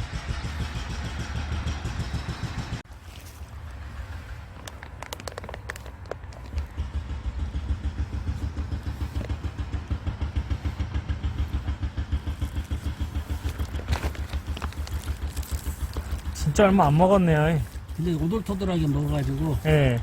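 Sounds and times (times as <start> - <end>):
engine running with low pulse: 0.0 - 20.0.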